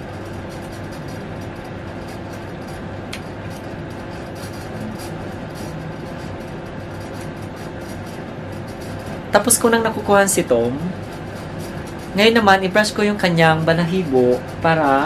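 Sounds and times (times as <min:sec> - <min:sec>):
faint irregular ticks: 0:00.0 - 0:15.0
machine humming and hissing: 0:00.0 - 0:15.0.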